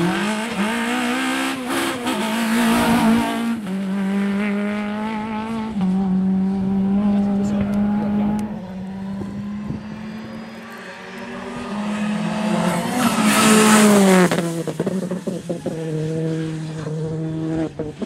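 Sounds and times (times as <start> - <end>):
rally car engine passing: 0.0 - 18.0.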